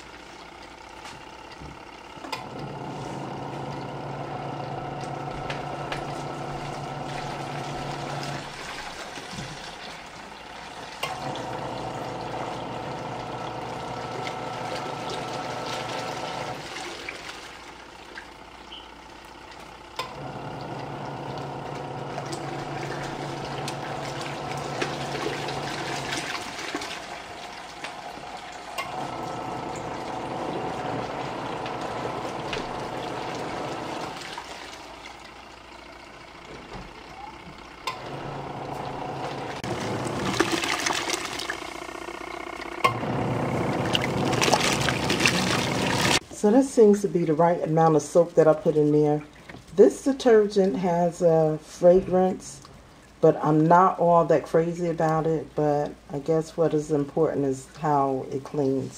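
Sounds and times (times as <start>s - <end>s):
washing machine motor humming: 0.0s - 58.9s
water and clothes sloshing: 2.5s - 18.8s, 19.4s - 41.8s, 43.2s - 56.2s.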